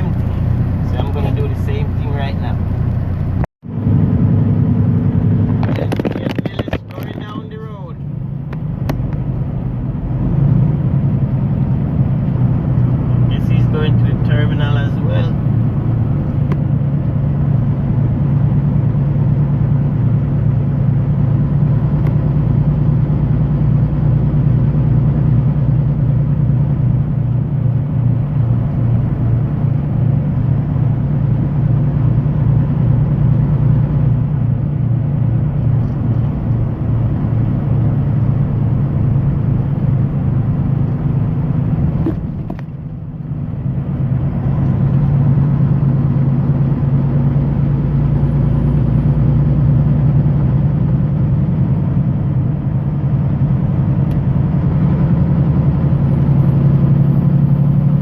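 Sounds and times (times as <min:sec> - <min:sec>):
diesel truck engine droning: 0:00.0 - 0:58.0.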